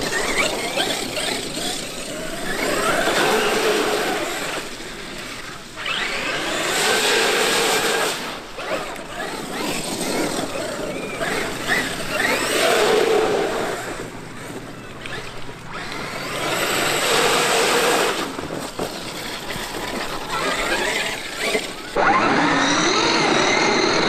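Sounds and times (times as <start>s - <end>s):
constant rushing noise: 0.0s - 24.0s
electric motor whine: 0.0s - 24.0s.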